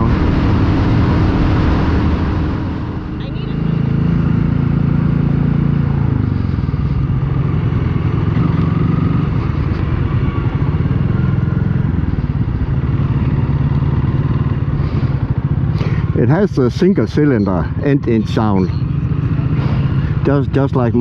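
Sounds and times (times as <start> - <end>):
motorcycle engine running low: 0.0 - 21.0.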